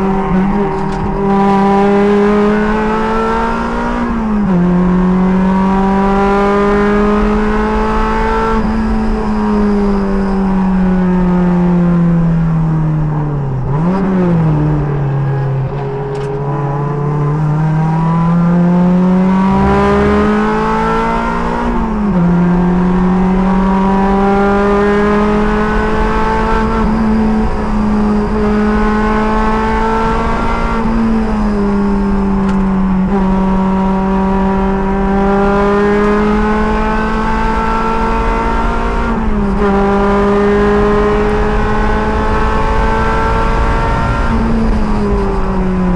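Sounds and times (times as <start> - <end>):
race car engine: 0.0 - 45.9.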